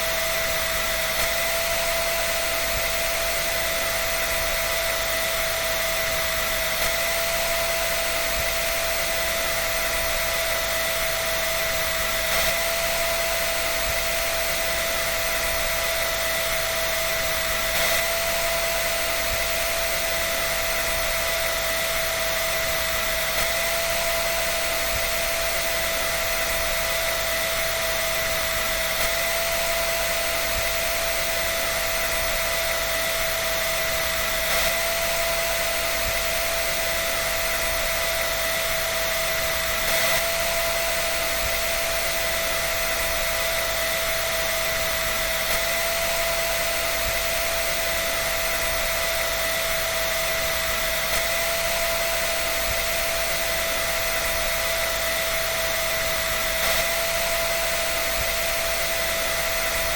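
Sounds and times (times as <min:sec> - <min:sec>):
dryer running: 0:00.0 - 0:59.9.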